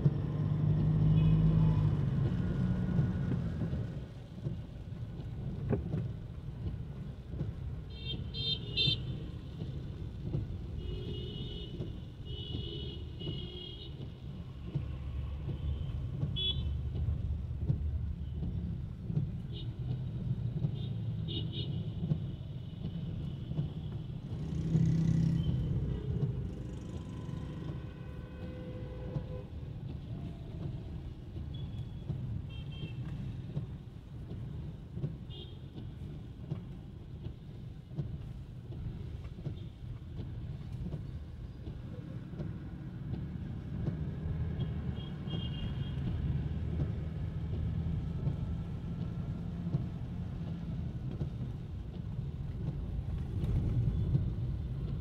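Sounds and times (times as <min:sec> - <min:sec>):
road traffic rumbling: 0:00.0 - 0:55.0.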